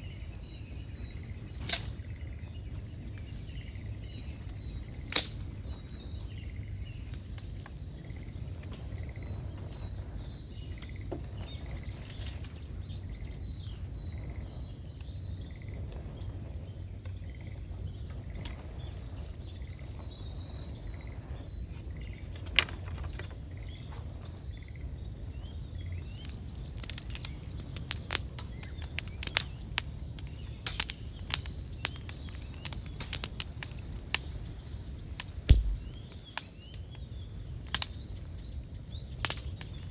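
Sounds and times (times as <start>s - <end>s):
small birds chirping: 0.0s - 39.9s
bonfire crackling and popping: 0.1s - 39.9s.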